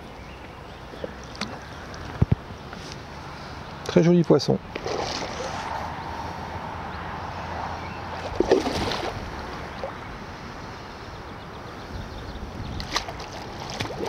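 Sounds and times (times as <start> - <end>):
water noise: 0.0 - 3.8, 4.6 - 14.0
wind: 0.0 - 14.0.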